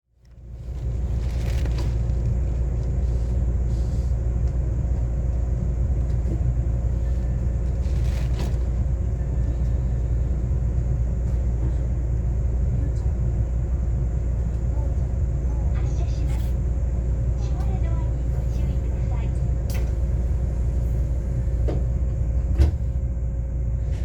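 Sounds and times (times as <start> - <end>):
train cab hum and rumble: 0.1 - 24.0.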